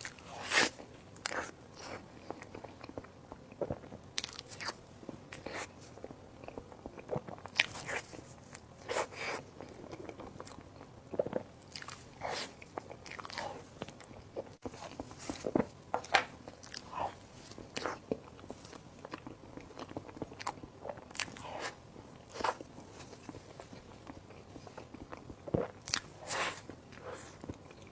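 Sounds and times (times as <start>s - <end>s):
person chewing food: 0.0s - 27.9s.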